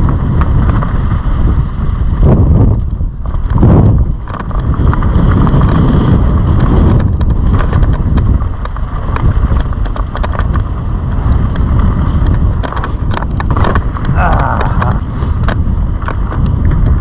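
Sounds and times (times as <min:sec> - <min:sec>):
bike clicks and rattles: 0:00.0 - 0:17.0
tyres rolling on dirt: 0:00.0 - 0:17.0
wind on microphone: 0:00.0 - 0:17.0.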